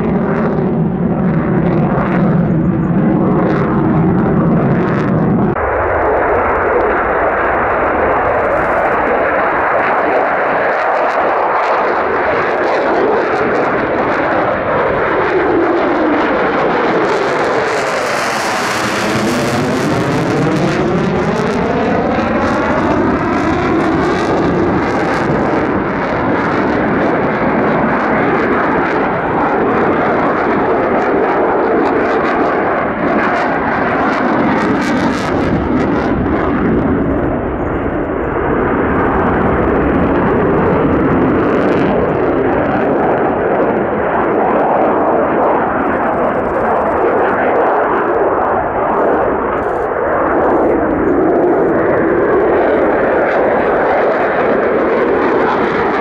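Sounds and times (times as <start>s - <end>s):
jet engine crackling: 0.0s - 56.0s
jet engine roaring in afterburner: 0.0s - 56.0s.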